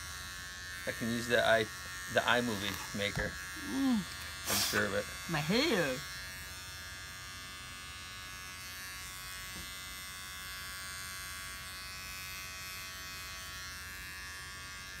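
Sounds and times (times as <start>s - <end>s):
electric trimmer buzzing: 0.0s - 15.0s.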